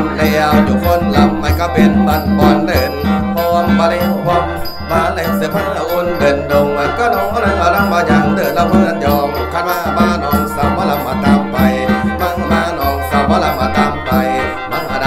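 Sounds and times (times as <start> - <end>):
bamboo mouth organ playing: 0.0 - 15.0
steady percussion beat: 0.0 - 15.0
rattling jingling shaker: 0.1 - 15.0.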